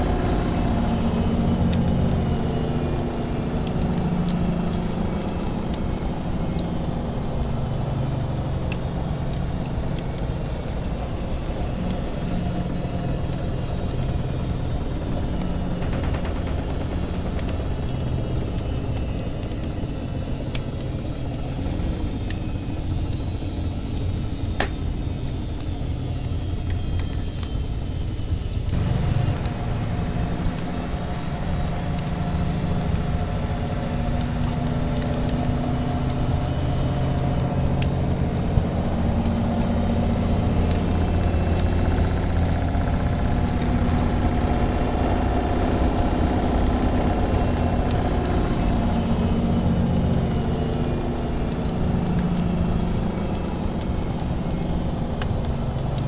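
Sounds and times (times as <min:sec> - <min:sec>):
washing machine running: 0:00.0 - 0:56.0
wood fire crackling: 0:00.0 - 0:56.0.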